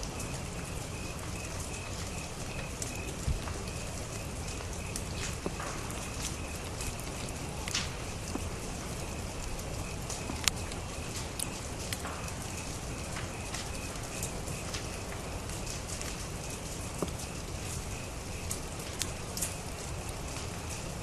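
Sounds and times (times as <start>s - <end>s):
fire crackles and pops: 0.0s - 21.0s
fire rushing: 0.0s - 21.0s.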